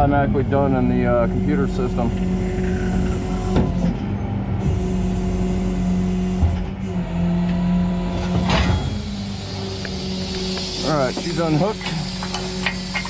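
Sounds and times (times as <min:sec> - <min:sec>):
tow truck engine running: 0:00.0 - 0:13.0.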